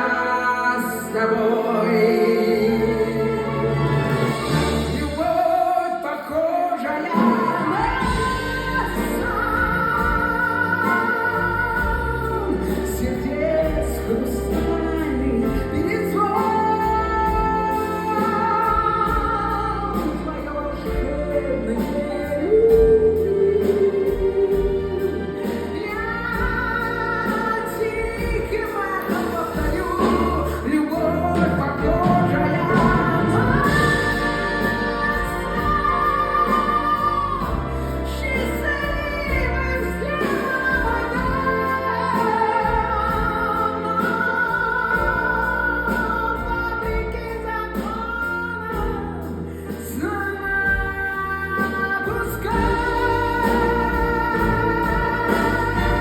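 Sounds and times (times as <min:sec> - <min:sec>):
instrumental accompaniment: 0:00.0 - 0:56.0.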